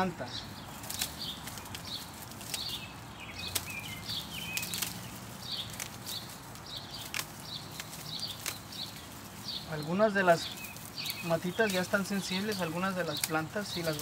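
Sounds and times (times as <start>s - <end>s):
bird chirps: 0.0s - 14.0s
dry plants rustling and cracking: 0.0s - 14.0s
sharp snaps of stems: 0.0s - 14.0s.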